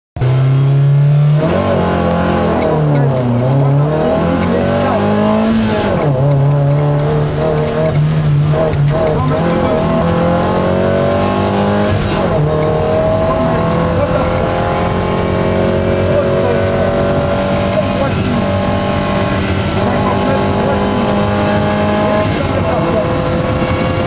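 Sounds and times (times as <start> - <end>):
car engine revving: 0.2 - 24.0.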